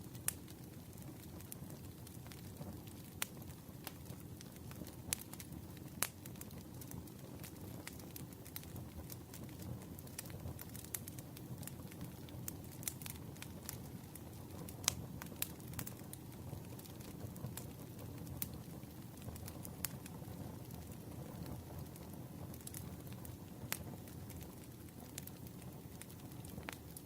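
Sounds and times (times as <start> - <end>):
burning wood popping and crackling: 0.0 - 27.0
campfire flames rustling: 0.0 - 27.0.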